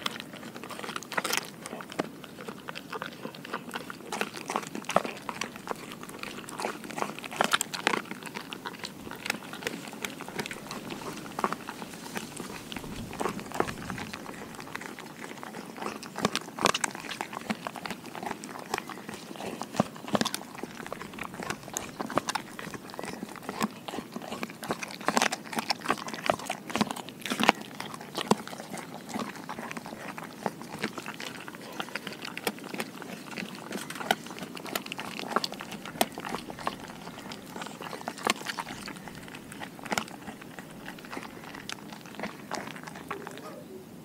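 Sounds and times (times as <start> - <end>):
teeth clicking: 0.0 - 43.6
dog chewing food: 0.0 - 44.0.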